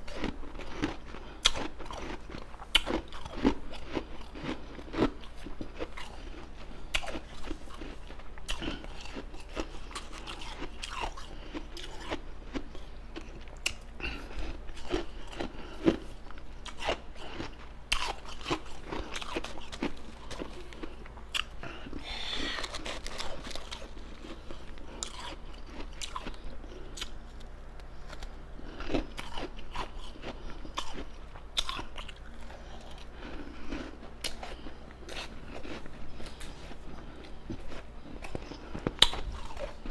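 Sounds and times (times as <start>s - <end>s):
ice crunching while chewing: 0.0s - 39.9s
chewing mouth sounds: 0.1s - 39.9s.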